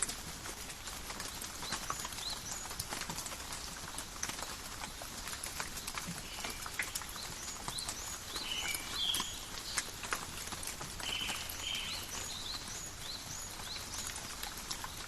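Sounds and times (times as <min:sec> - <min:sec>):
raindrops dripping on leaves: 0:00.0 - 0:15.0
steady rain patter: 0:00.0 - 0:15.0.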